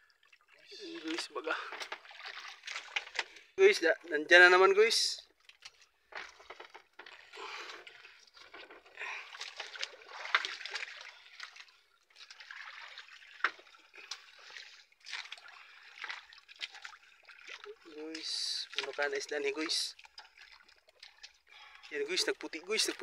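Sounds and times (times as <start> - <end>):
water trickling and splashing: 0.0 - 23.0
wet net hauled into boat: 0.8 - 3.6, 5.3 - 23.0.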